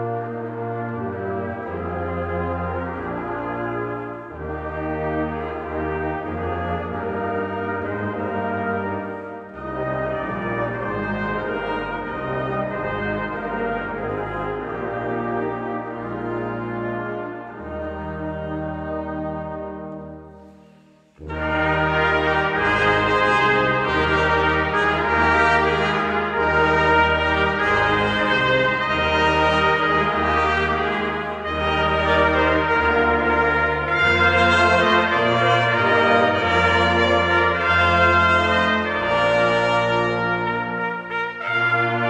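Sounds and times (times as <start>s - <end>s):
brass ensemble playing chords: 0.0s - 42.0s.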